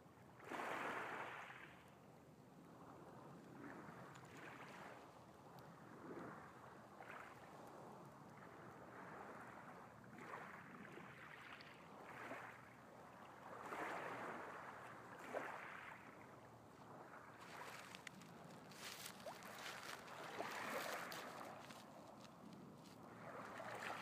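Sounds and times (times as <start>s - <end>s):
small waves lapping: 0.2s - 2.0s, 2.6s - 24.0s.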